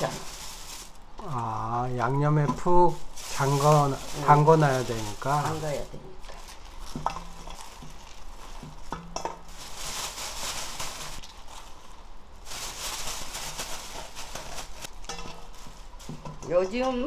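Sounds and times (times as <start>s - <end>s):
wet rustling of mesh bag: 0.0s - 1.2s, 2.8s - 16.4s.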